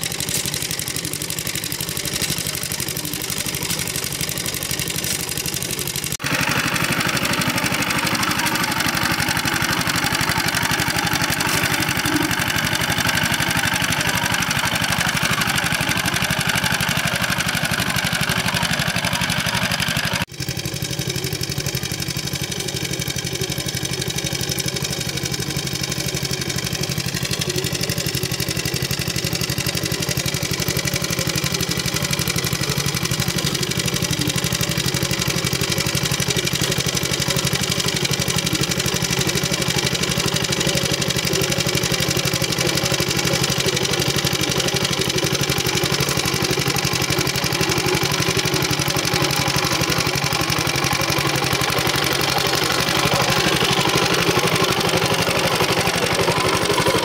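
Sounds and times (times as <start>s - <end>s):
farm machine engine running: 0.0s - 57.0s.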